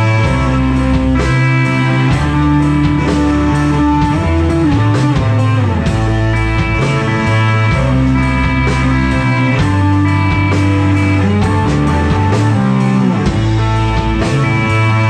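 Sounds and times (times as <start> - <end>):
electric guitars holding long notes: 0.0 - 15.0
low bass line: 0.0 - 15.0
steady drum beat: 0.0 - 15.0.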